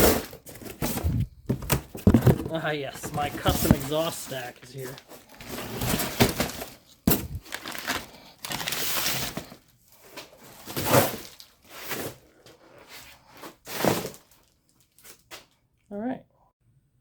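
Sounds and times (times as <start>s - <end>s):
wrapping crinkling and rustling: 0.0s - 15.6s.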